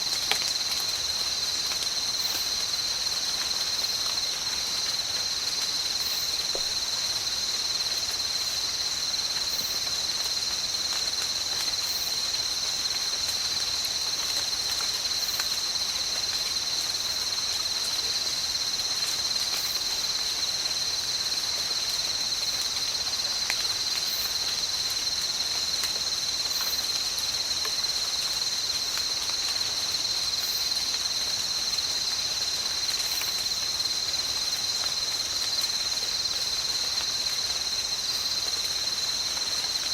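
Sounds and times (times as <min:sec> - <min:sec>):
light rain patter: 0:00.0 - 0:39.9
night insects chorus: 0:00.0 - 0:39.9.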